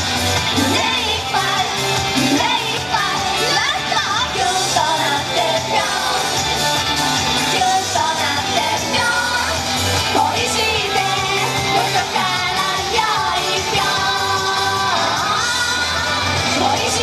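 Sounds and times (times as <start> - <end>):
backing music: 0.0 - 17.0
woman singing pop song: 0.1 - 17.0.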